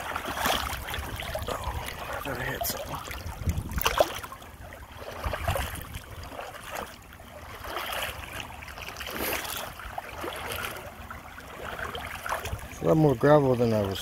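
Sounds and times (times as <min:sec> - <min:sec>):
hand splashing in creek water: 0:00.0 - 0:12.7
creek flowing: 0:00.0 - 0:14.0.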